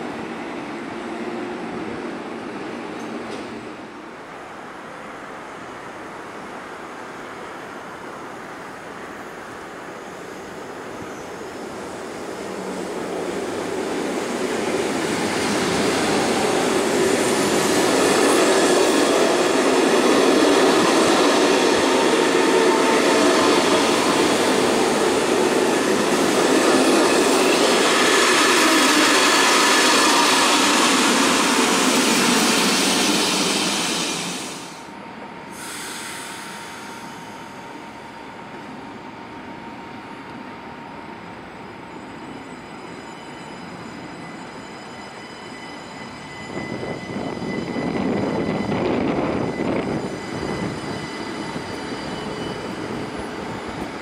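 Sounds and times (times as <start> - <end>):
passenger train passing: 0.0 - 54.0
train wheels on rails: 0.0 - 54.0.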